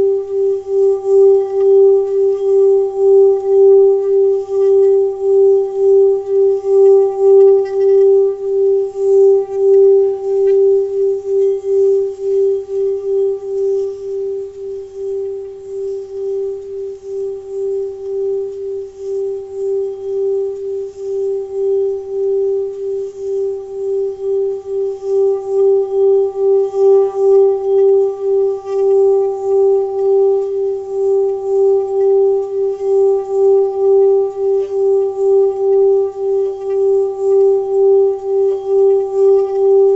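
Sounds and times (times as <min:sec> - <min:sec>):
singing bowl ringing tone: 0:00.0 - 0:39.9.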